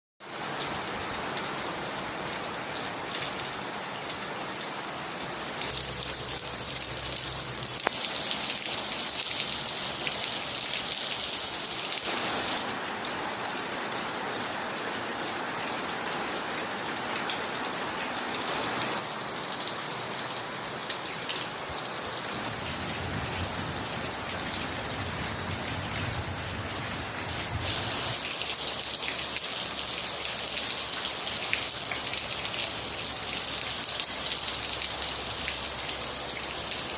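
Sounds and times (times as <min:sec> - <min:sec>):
steady rain falling: 0:00.2 - 0:36.9.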